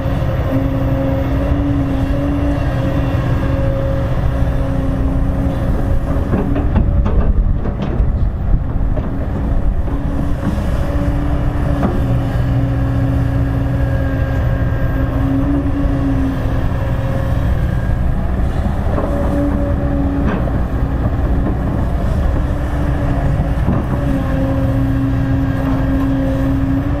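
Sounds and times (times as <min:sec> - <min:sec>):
excavator diesel engine running: 0:00.0 - 0:27.0
hydraulic whine: 0:00.0 - 0:27.0.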